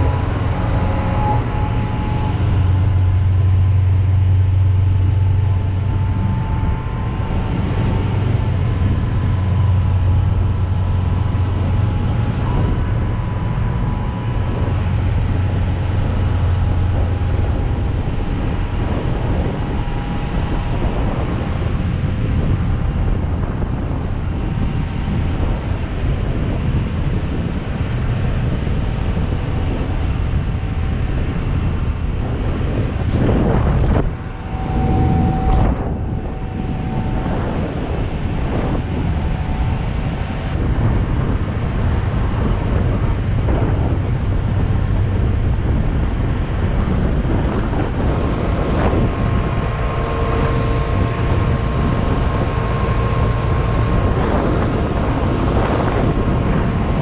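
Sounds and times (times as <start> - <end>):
boat engine droning: 0.0 - 57.0
hull running on water: 0.0 - 57.0
wind rushing over microphone: 0.0 - 57.0.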